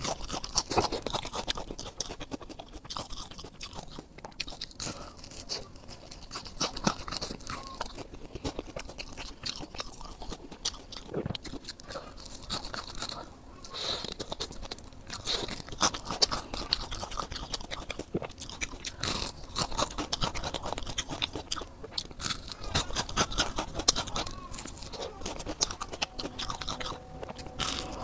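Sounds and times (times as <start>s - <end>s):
crunching and chewing fried food: 0.0s - 28.0s.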